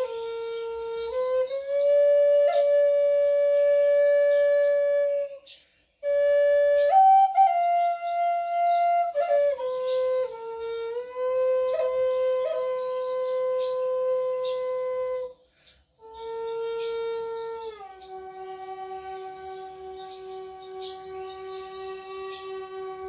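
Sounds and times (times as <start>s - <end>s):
flute playing slow melody: 0.0s - 23.0s.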